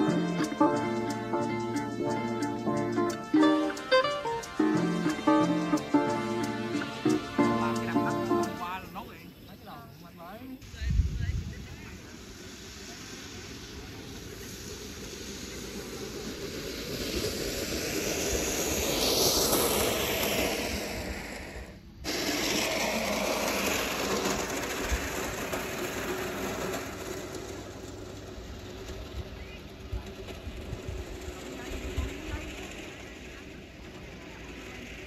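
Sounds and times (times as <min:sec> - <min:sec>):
plastic sled scraping down turf: 0:00.0 - 0:10.4, 0:11.0 - 0:35.0.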